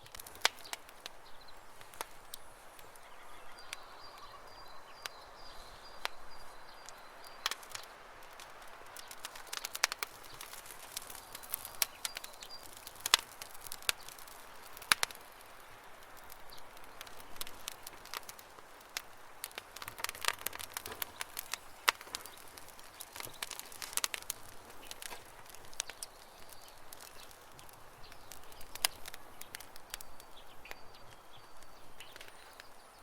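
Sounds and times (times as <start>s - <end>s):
campfire crackling: 0.0s - 33.0s.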